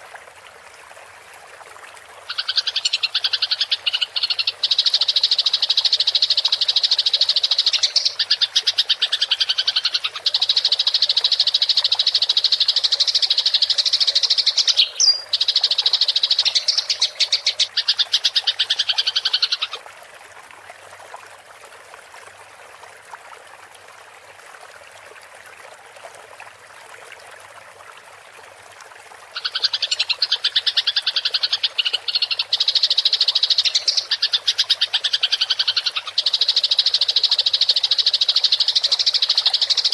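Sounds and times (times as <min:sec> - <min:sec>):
running water hiss: 0:00.0 - 0:21.6, 0:28.4 - 0:39.9.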